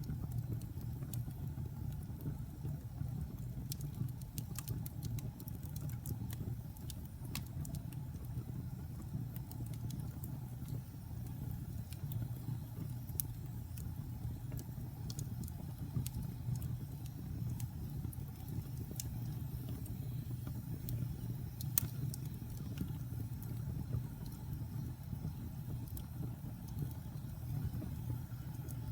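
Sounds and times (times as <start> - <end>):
fire flames rumbling: 0.0 - 28.9
logs crackling and popping: 0.0 - 28.9.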